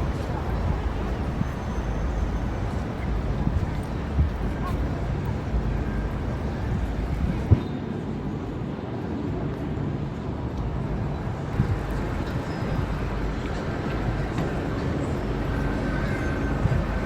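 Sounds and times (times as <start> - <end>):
traffic rumble: 0.0 - 7.6, 10.6 - 17.0.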